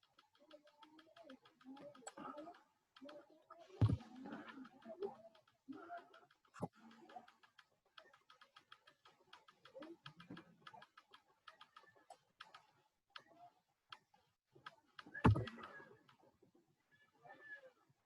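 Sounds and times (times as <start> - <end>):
keyboard and mouse clicking: 0.0 - 16.2.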